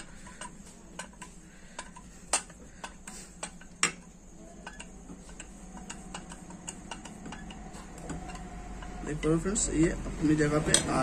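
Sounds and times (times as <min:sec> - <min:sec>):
hand tools clicking on metal: 0:00.0 - 0:09.3.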